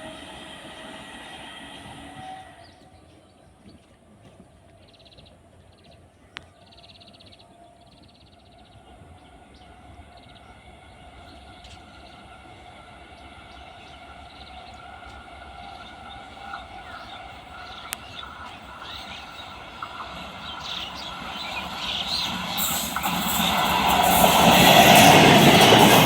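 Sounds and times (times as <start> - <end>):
electric train whine: 0.0 - 3.1, 7.9 - 26.0.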